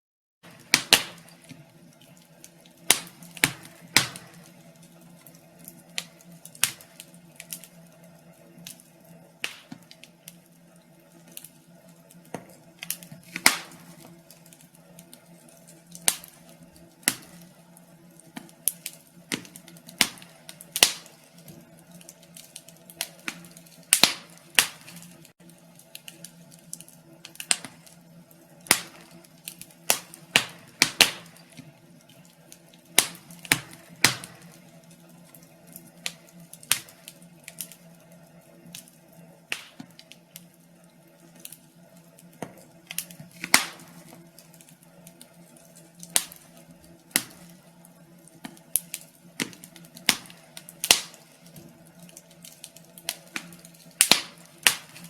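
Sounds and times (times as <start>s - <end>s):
wood fire crackling and popping: 0.4s - 55.0s.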